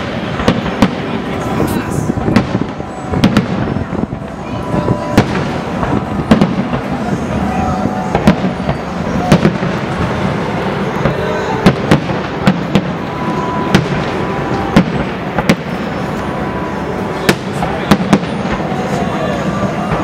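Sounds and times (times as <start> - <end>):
background hubbub: 0.0 - 20.0
fireworks bangs echoing: 0.0 - 20.0.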